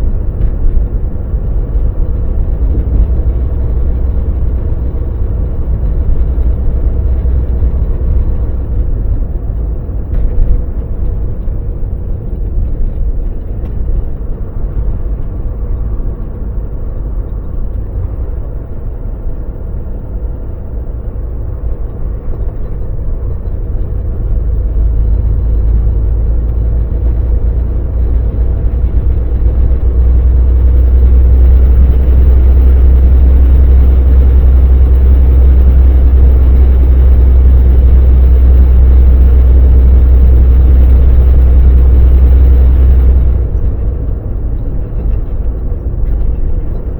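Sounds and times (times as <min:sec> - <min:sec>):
road noise: 0:00.0 - 0:46.9
truck engine rumble: 0:00.0 - 0:46.9.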